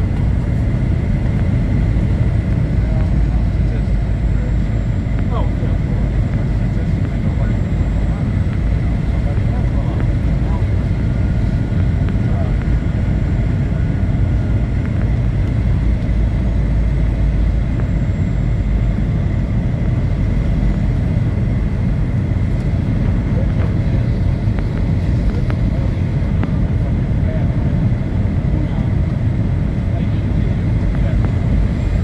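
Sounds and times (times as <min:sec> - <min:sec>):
faint high whine: 0:00.0 - 0:32.0
jet cabin engine rumble: 0:00.0 - 0:32.0.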